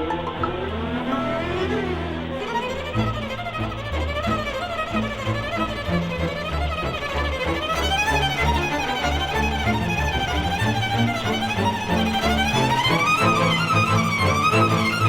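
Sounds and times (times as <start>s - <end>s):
violin-led string music: 0.0s - 15.0s.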